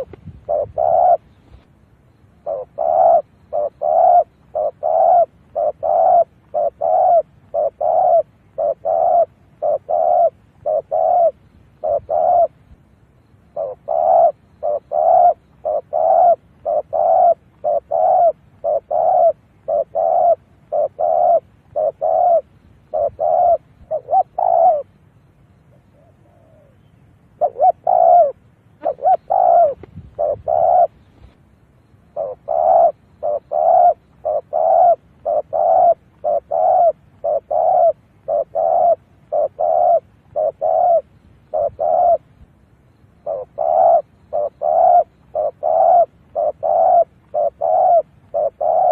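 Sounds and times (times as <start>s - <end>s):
dove cooing: 0.0s - 31.4s, 32.0s - 48.9s.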